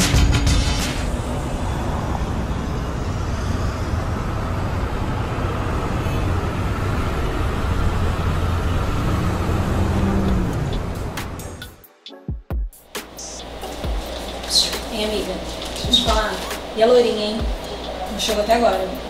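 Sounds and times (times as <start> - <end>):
city traffic rumble: 0.0 - 11.8, 12.8 - 19.0.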